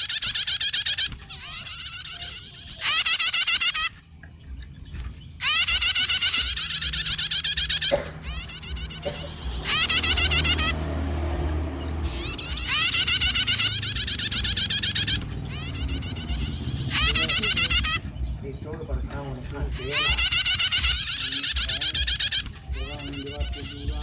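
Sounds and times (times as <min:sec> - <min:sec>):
bird chattering song: 0:00.0 - 0:24.0.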